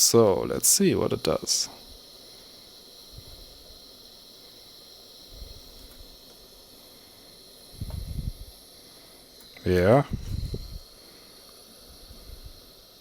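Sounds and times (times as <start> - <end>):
gas soldering iron hissing: 0.0 - 13.0.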